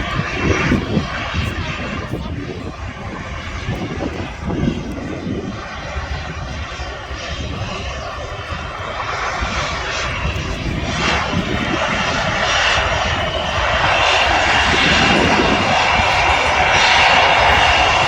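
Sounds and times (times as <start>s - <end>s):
airliner engines: 0.0s - 18.0s
steady high whine: 0.0s - 18.0s.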